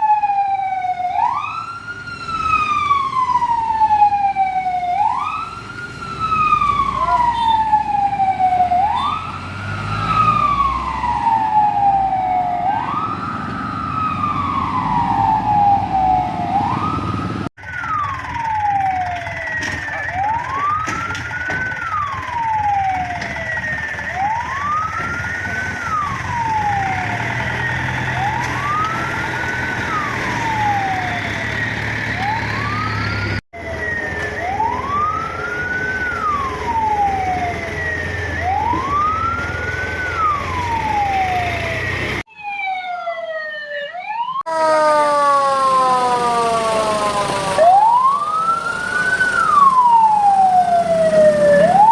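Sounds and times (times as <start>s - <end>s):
fire truck siren wailing: 0.0s - 51.9s.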